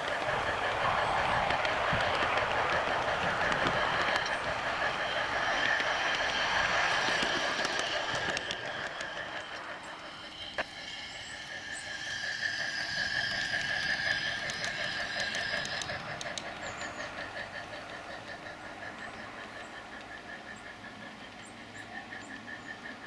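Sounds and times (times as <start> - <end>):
model steam train running: 0.0 - 23.0.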